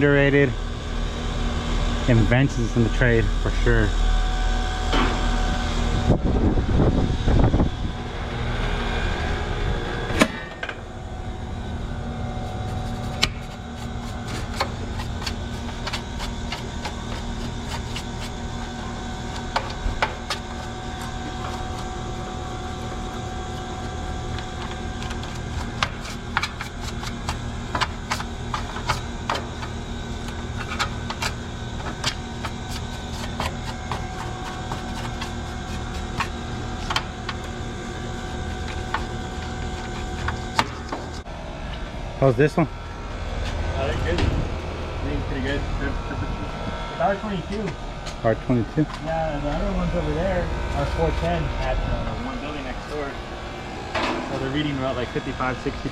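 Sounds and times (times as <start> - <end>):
air conditioning units humming: 0.0 - 55.9.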